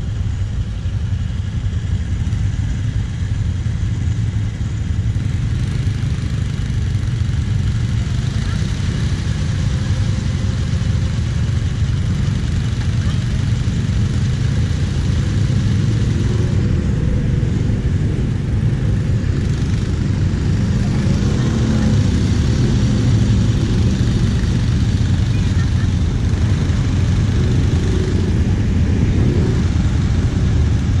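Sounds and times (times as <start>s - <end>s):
other quad engines running: 0.0s - 31.0s
quad engine idling: 0.0s - 31.0s.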